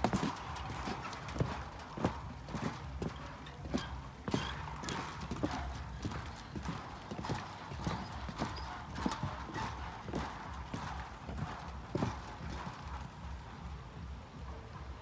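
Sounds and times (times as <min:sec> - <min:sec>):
footsteps on wooden deck: 0:00.0 - 0:13.8.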